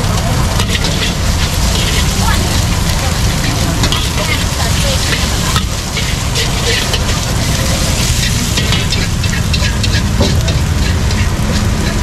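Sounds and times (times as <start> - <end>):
food sizzling in a wok: 0.0 - 12.0
low rumble: 0.0 - 12.0
metal spatula scraping a wok: 0.1 - 12.0.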